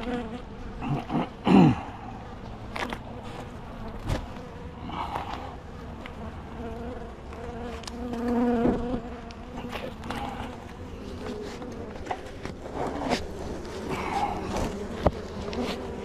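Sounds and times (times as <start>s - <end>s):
bee humming close by: 0.0s - 16.0s
bees buzzing: 0.0s - 16.0s.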